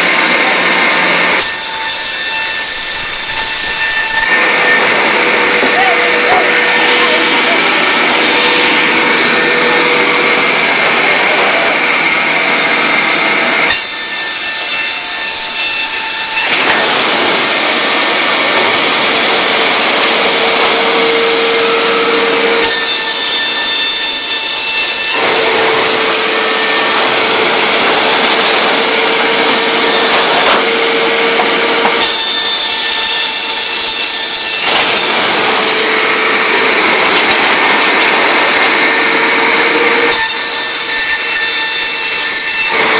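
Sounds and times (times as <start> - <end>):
circular saw ripping boards: 0.0 - 20.9, 21.5 - 42.9.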